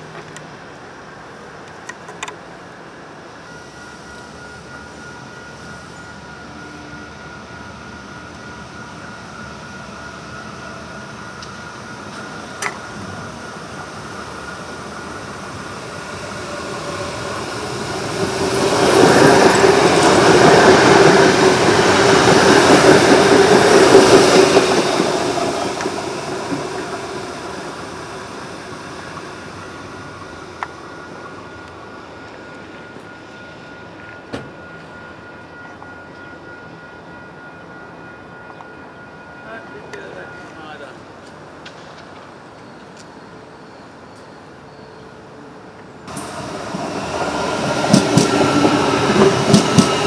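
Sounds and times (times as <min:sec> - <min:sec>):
electric train passing: 0:00.0 - 0:50.0.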